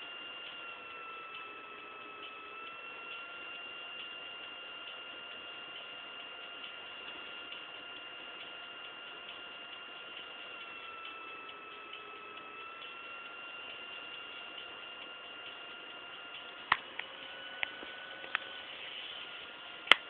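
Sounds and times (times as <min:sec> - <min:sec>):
high-pitched electronic whine: 0:00.0 - 0:20.0
faint regular ticking: 0:02.2 - 0:20.0.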